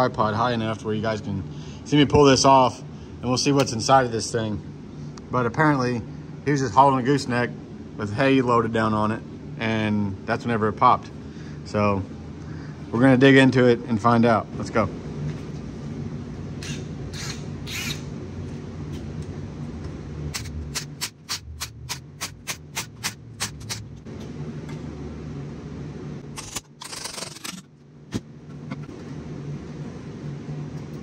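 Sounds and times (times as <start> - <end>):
shop fan hum: 0.0 - 31.0.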